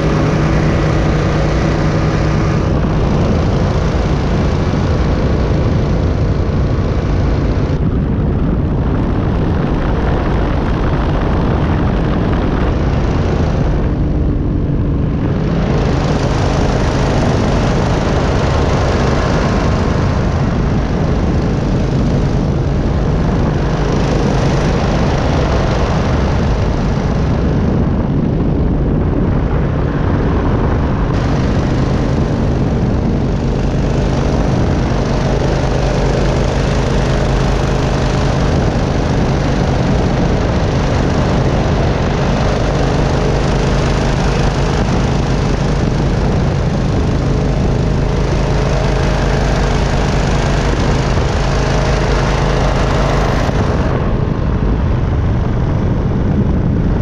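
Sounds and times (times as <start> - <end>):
engine and propeller running: 0.0 - 57.0.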